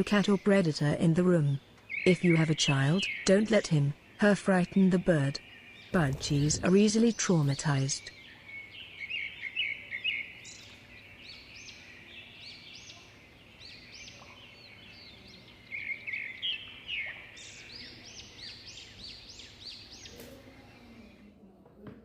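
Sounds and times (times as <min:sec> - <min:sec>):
budgies chirping: 0:00.0 - 0:21.2.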